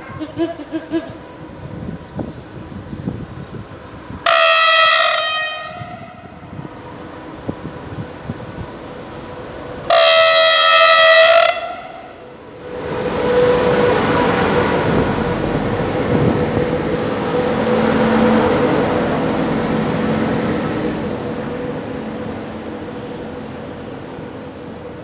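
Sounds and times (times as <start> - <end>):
train wheels rushing on rails: 0.0 - 25.0.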